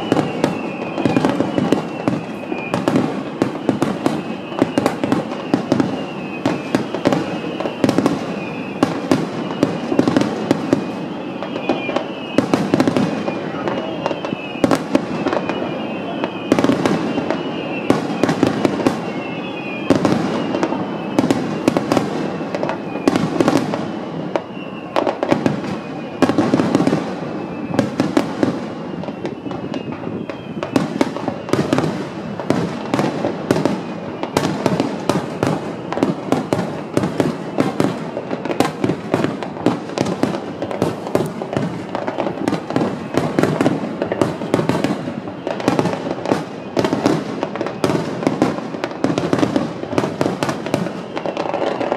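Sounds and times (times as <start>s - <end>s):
fireworks bursting: 0.0s - 51.9s
fireworks crackling: 0.0s - 51.9s.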